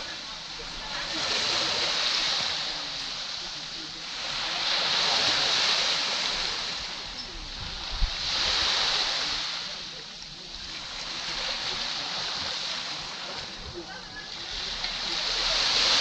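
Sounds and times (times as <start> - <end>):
waves washing onto a beach: 0.0 - 16.0.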